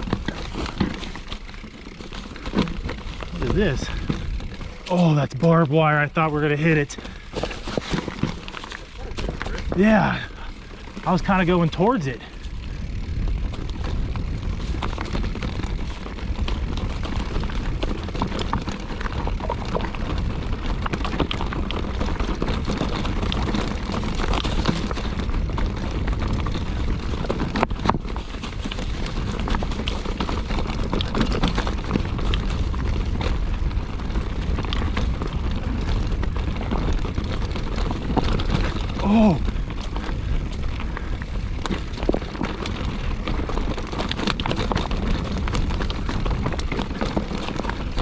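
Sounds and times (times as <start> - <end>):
mountain bike rattling on trail: 0.0 - 48.0
wind buffeting microphone: 2.6 - 5.4, 9.0 - 48.0.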